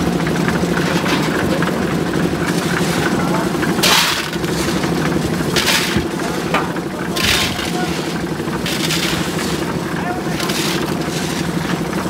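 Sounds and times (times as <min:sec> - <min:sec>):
concrete mixer engine running: 0:00.0 - 0:12.0
gravel clattering into drum: 0:00.6 - 0:12.0.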